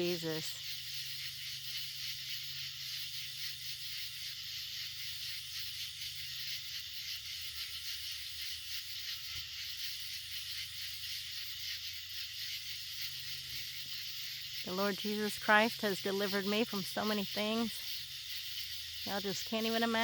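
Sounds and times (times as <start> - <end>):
crickets and katydids trilling: 0.0 - 20.0.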